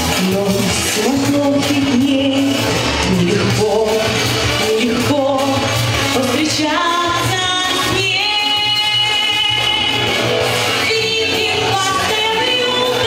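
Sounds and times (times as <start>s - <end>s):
woman singing pop song: 0.0s - 13.0s.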